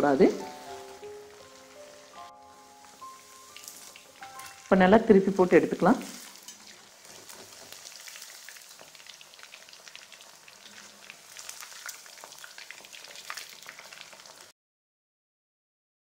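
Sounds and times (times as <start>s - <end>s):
chicken deep-frying in oil: 0.0s - 14.5s.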